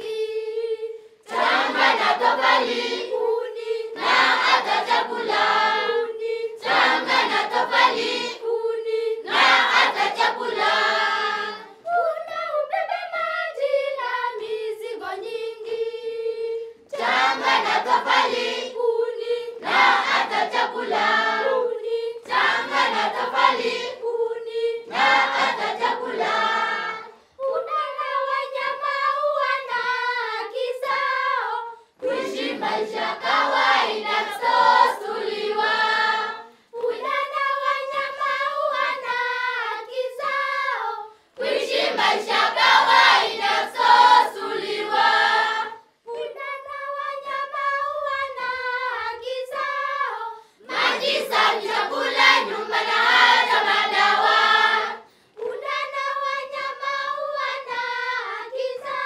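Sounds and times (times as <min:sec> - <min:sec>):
children singing in chorus: 0:00.0 - 0:59.0.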